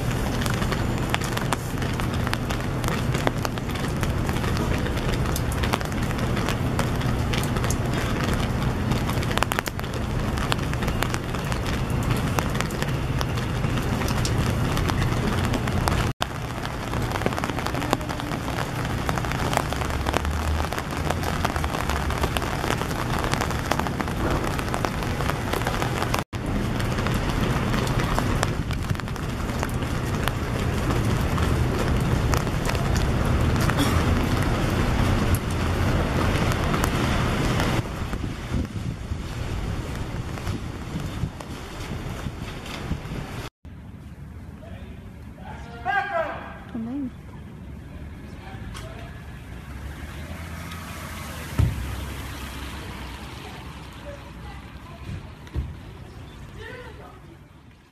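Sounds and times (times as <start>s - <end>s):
constant low rumble: 0.0s - 49.6s
rain pattering: 0.0s - 57.9s.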